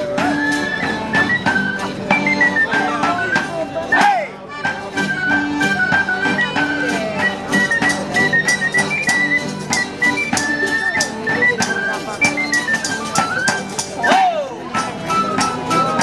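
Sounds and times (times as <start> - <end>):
folk dance music: 0.0 - 16.0.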